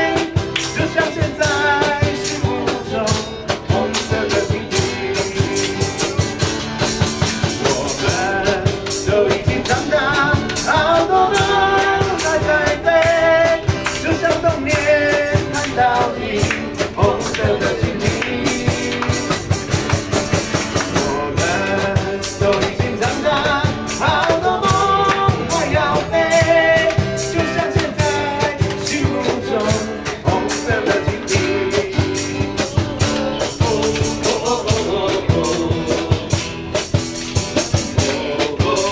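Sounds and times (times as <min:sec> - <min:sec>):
man singing into microphone: 0:00.0 - 0:06.0, 0:07.5 - 0:19.5, 0:20.9 - 0:36.5, 0:37.9 - 0:38.9
electric bass: 0:00.0 - 0:38.9
strummed acoustic guitar: 0:00.0 - 0:38.9.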